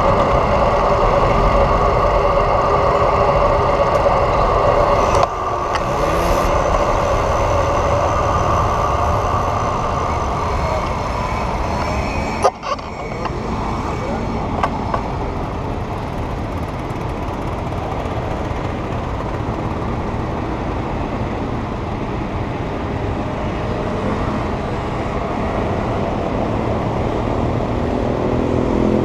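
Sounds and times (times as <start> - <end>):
engine rising in pitch: 0.0 - 22.5, 23.3 - 29.0
city traffic: 0.0 - 29.0.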